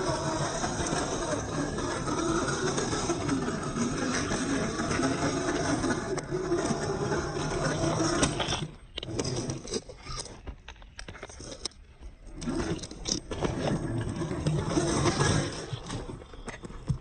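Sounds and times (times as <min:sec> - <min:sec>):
rc car motor and gear whine: 0:00.0 - 0:17.0.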